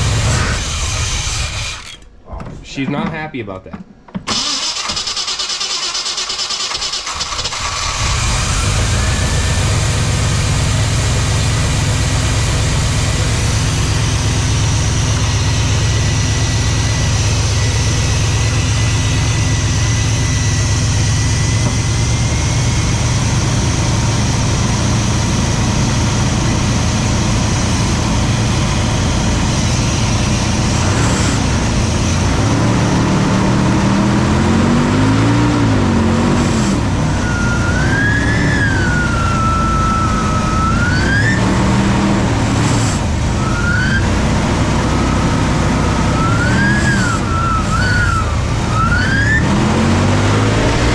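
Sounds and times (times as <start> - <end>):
car engine running and revving: 0.0 - 1.9, 7.4 - 50.9
high whine: 8.2 - 50.9.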